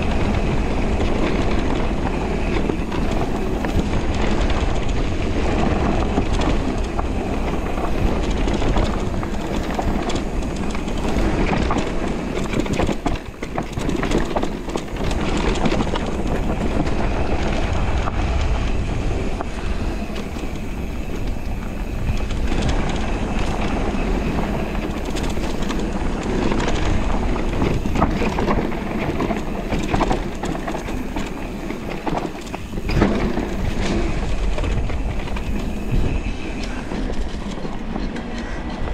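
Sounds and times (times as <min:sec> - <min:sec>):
bike rattling and knocking: 0:00.0 - 0:38.9
tyres rumbling over dirt: 0:00.0 - 0:38.9.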